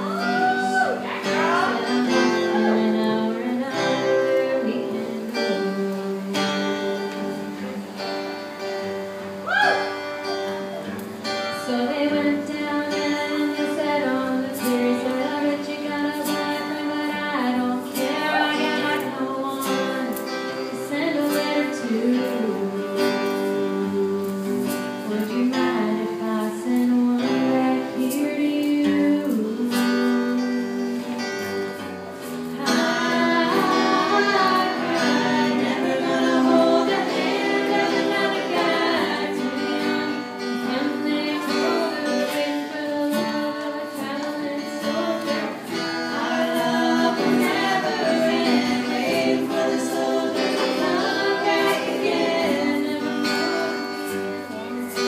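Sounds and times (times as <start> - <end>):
acoustic guitar strumming: 0.0 - 55.0
woman singing country ballad: 0.0 - 55.0.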